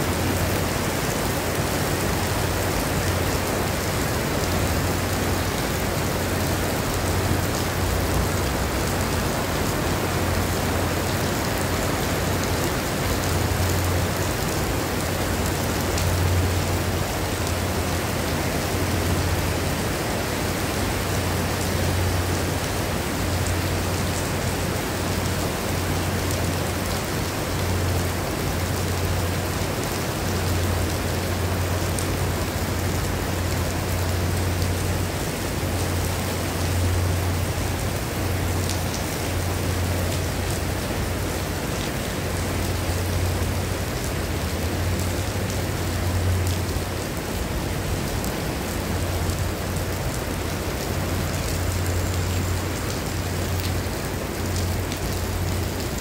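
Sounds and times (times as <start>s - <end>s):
heavy rain on paving and grass: 0.0s - 56.0s.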